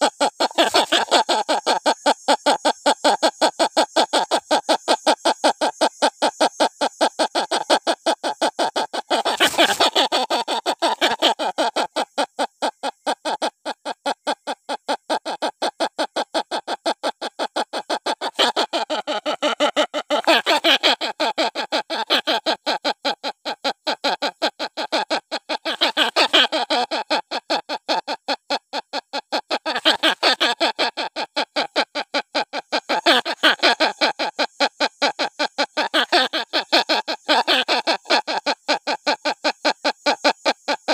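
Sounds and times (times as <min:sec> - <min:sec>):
hornbill chick crying: 0:00.1 - 0:14.4, 0:15.1 - 0:39.4.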